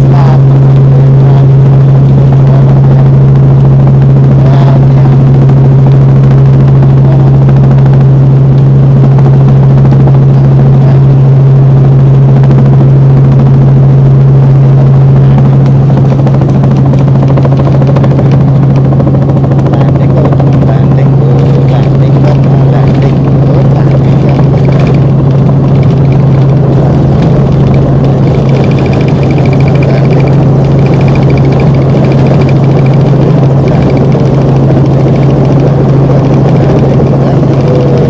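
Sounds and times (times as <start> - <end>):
helicopter drone from inside cabin: 0.0 - 38.0.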